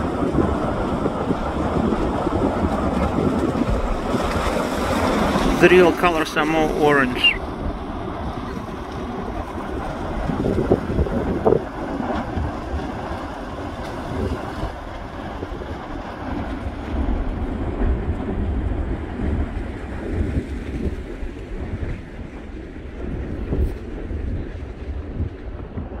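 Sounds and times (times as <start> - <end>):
wind buffeting microphone: 0.0 - 5.7, 7.4 - 26.0
roar and rumble of erupting volcano: 0.0 - 26.0.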